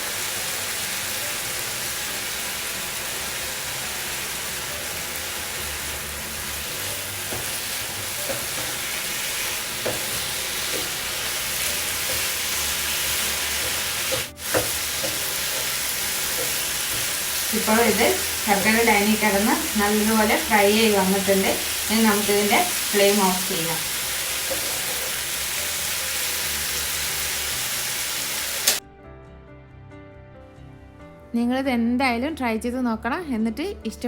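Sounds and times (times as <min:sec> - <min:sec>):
fruit sizzling in frying fat: 0:00.0 - 0:28.8.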